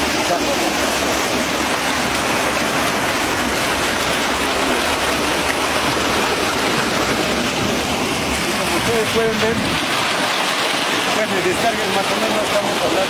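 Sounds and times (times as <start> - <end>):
water gushing through concrete box: 0.0 - 13.0.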